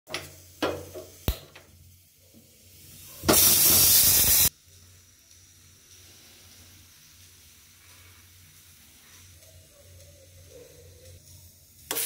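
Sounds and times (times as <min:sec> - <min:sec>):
gas hissing: 0:00.1 - 0:12.0.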